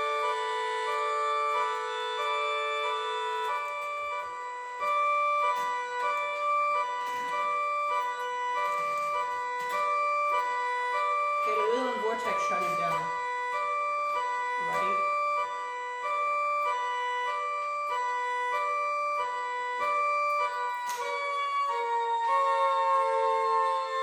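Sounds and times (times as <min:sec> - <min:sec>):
air raid siren high-low signal: 0:00.0 - 0:24.0.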